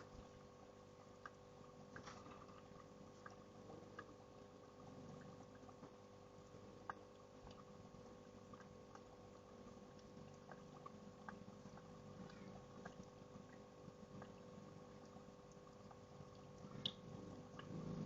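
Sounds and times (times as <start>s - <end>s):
steady low hum: 0.0s - 18.0s
water trickling and dripping: 0.0s - 18.0s.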